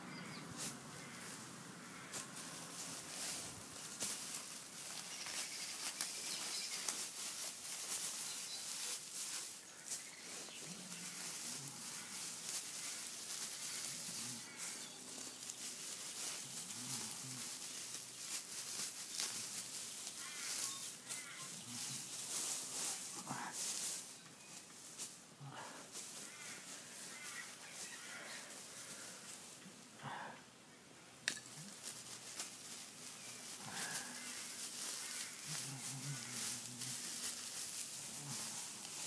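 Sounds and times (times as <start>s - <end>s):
straw rustling and crackling: 0.1s - 30.0s, 31.2s - 39.0s.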